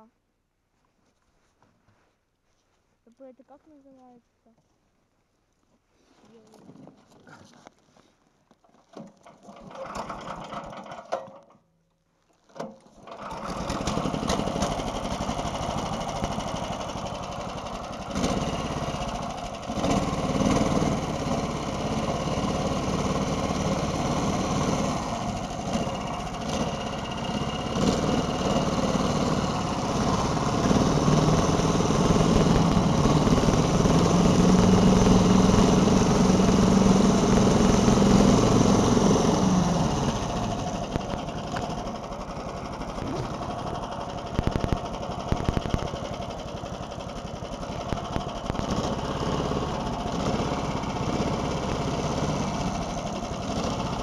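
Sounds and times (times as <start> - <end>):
small petrol engine running: 8.9 - 11.6, 12.6 - 54.0.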